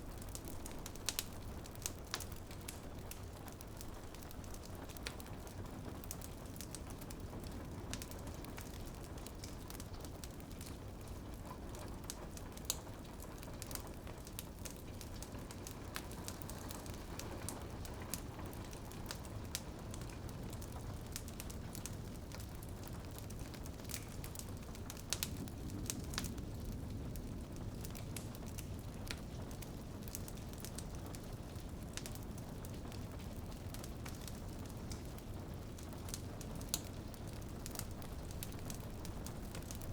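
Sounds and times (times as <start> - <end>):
rain pattering on window: 0.0 - 39.9
wood fire crackling and popping: 0.0 - 39.9.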